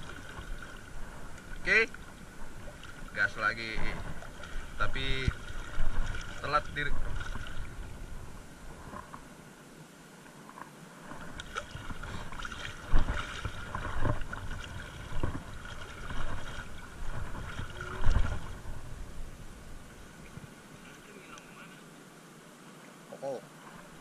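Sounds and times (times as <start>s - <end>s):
sea water splashing: 0.0s - 9.5s, 10.1s - 24.0s.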